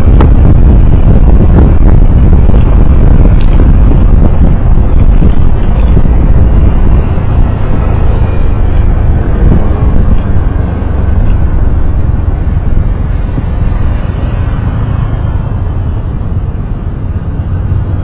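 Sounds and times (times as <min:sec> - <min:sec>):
road vehicle rumble: 0:00.0 - 0:18.0.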